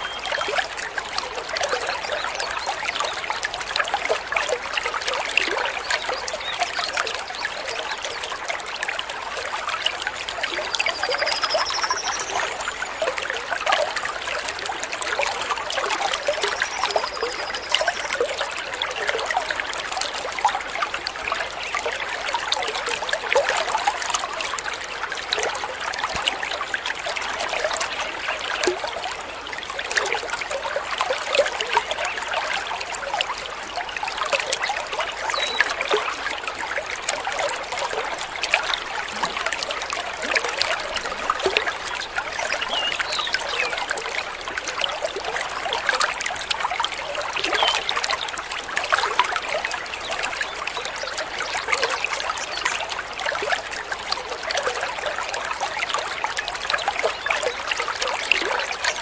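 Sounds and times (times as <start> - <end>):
water trickling over stones: 0.0 - 59.0.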